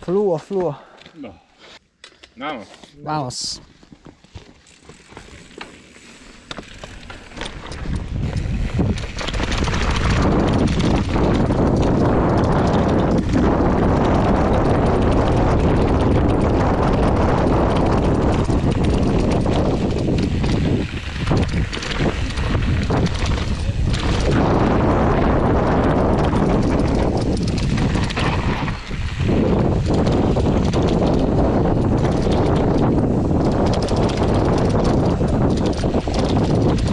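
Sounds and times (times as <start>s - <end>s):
bike tyres rattling over dirt: 3.3s - 36.9s
wind rushing over microphone: 7.3s - 36.9s.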